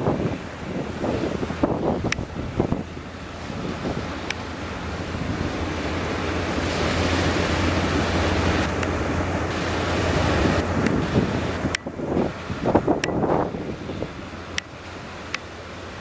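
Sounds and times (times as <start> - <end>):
surf breaking: 0.0 - 16.0
wind buffeting microphone: 0.0 - 16.0.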